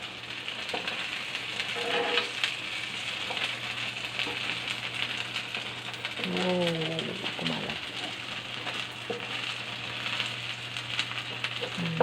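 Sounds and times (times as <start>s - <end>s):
oil crackles: 0.0s - 12.0s
omelette sizzling in hot oil: 0.0s - 12.0s.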